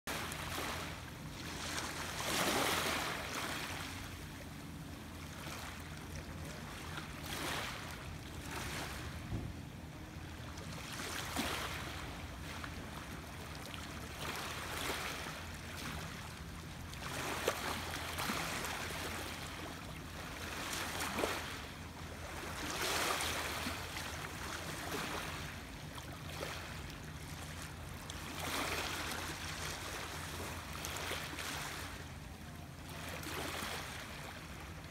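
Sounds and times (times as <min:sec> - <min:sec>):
water splashes: 0:00.1 - 0:32.2, 0:32.8 - 0:34.9
low steady hum: 0:00.1 - 0:34.9
small waves lapping: 0:00.1 - 0:34.9.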